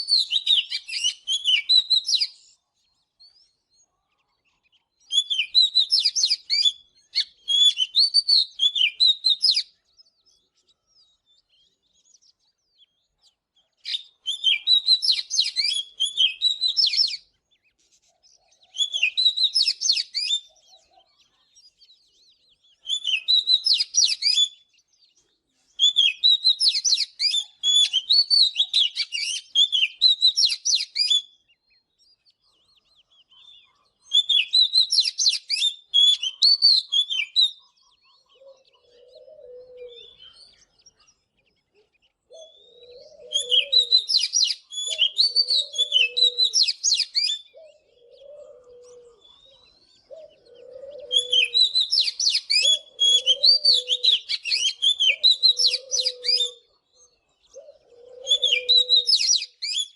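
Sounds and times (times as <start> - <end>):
magpie-robin singing: 0.0 - 59.9.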